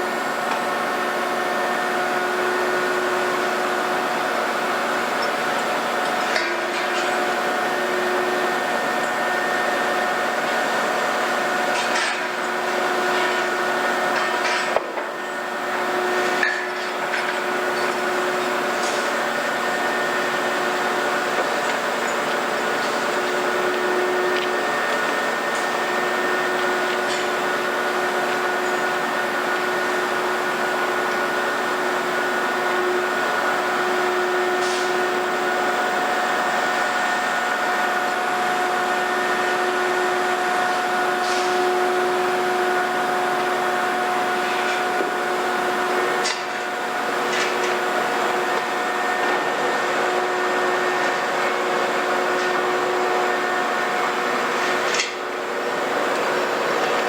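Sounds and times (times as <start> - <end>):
heavy machinery engine drone: 0.0 - 57.0.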